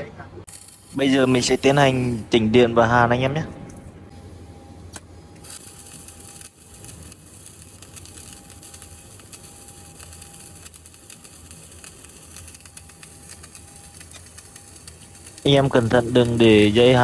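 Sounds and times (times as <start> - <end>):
welding arc crackling: 0.4 - 2.6, 4.9 - 17.0.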